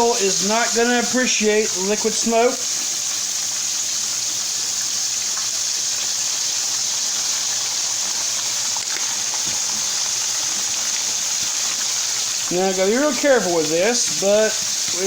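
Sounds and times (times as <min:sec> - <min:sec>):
steak sizzling in hot oil: 0:00.0 - 0:15.0.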